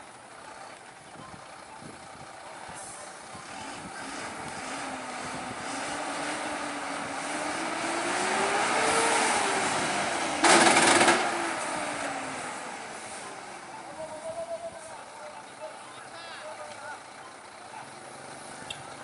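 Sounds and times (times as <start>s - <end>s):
truck diesel engine straining: 0.0s - 19.0s.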